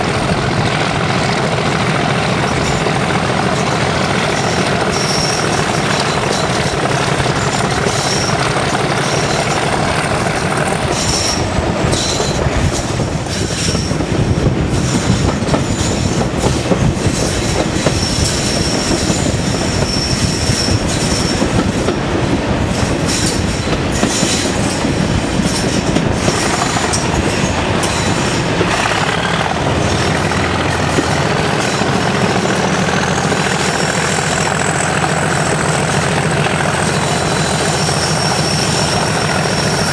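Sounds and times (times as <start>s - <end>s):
diesel locomotive engine working: 0.0s - 39.9s
train wheels clattering over rail joints: 0.0s - 39.9s
wheel flanges squealing: 2.2s - 21.9s, 22.7s - 39.9s.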